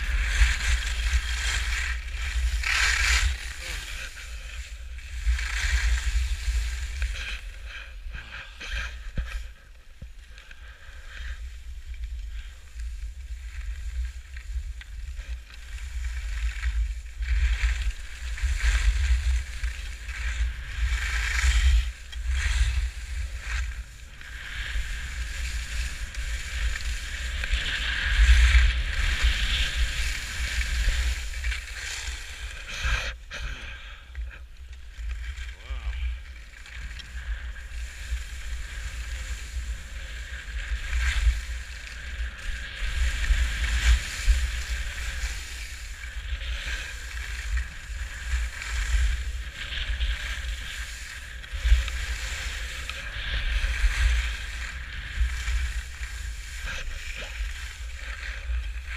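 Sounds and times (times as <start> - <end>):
skis scraping over snow: 0.0 - 58.9.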